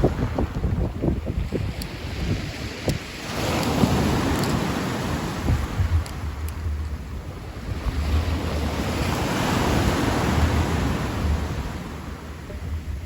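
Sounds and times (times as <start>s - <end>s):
sea waves breaking: 0.0s - 13.0s
wind rumble on microphone: 0.0s - 13.0s.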